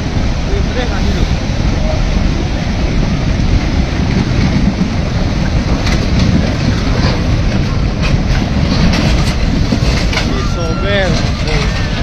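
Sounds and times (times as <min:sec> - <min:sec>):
debris flow rumbling: 0:00.0 - 0:12.0.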